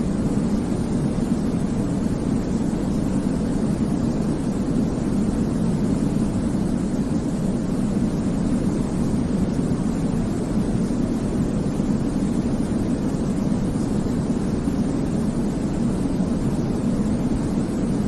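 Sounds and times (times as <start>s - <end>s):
deep rumbling white noise: 0.0s - 18.0s.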